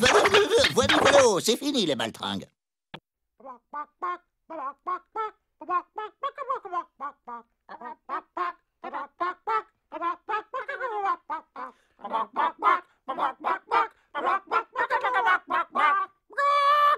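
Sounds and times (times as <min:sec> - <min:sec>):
clucking calls: 0:00.0 - 0:01.4, 0:03.7 - 0:16.6.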